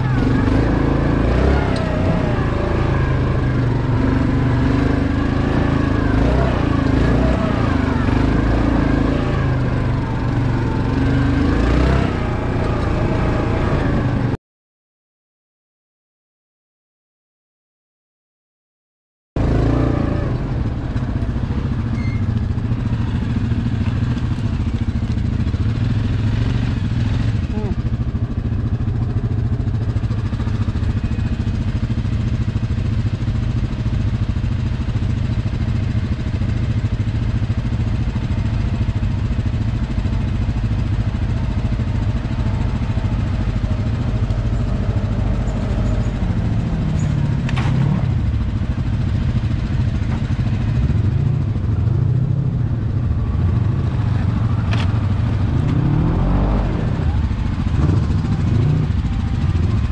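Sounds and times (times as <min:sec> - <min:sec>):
atv engine running: 0:00.0 - 0:14.4, 0:19.4 - 0:59.9.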